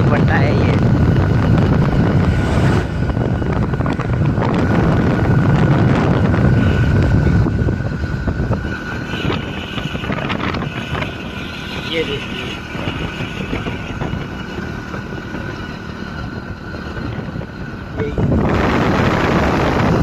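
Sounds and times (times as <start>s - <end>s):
thin steady whine: 0.0s - 20.0s
vehicle engine and road rumble: 0.0s - 20.0s
wind buffeting microphone: 0.0s - 20.0s.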